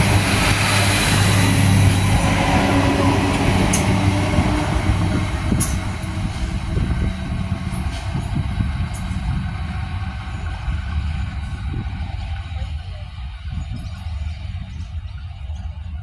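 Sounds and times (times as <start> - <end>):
train engine hum: 0.0 - 16.0
wheel and rail noise: 0.0 - 16.0.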